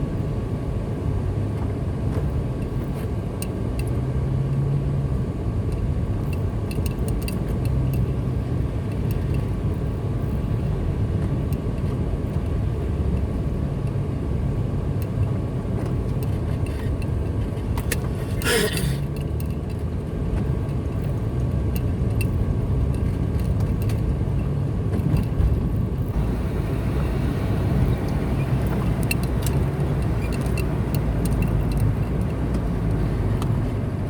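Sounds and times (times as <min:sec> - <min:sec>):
car engine hum: 0:00.0 - 0:34.0
tyre and road noise: 0:00.0 - 0:34.0.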